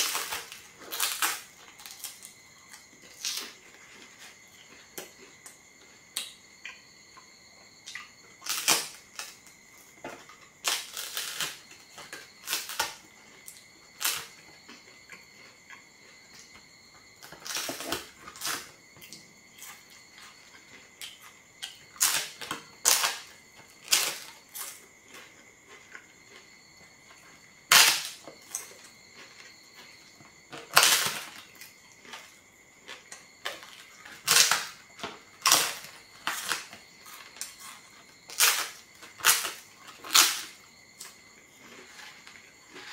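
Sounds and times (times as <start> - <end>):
flatbread crunching when chewed: 0.0 - 7.3, 7.9 - 42.9.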